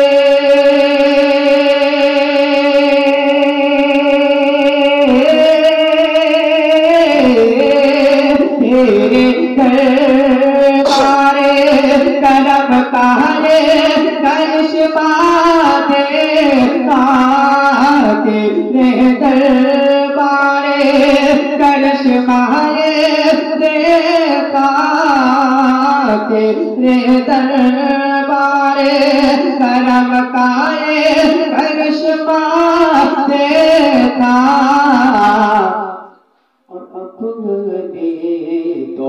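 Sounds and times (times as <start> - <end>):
person singing devotional poem: 0.0 - 39.0.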